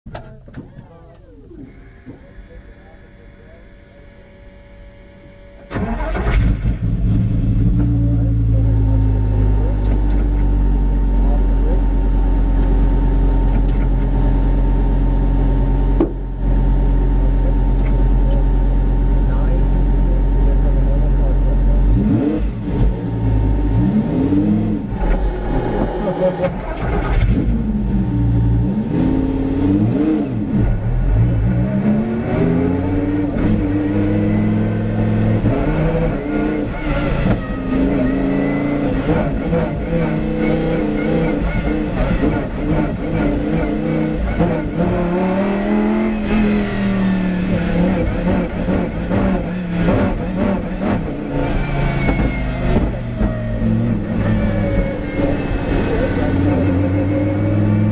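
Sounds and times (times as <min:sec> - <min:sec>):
race car engine running hard: 0:00.2 - 0:57.9.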